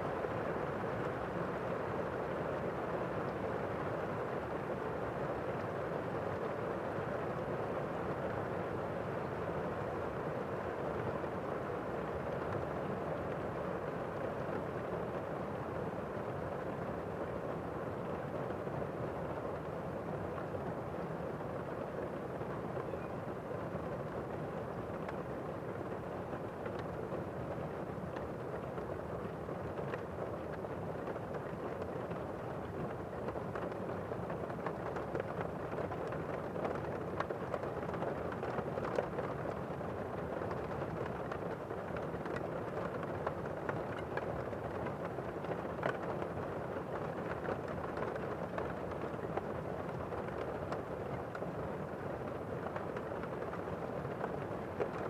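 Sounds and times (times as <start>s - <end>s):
muffled steady rain: 0.0s - 55.0s.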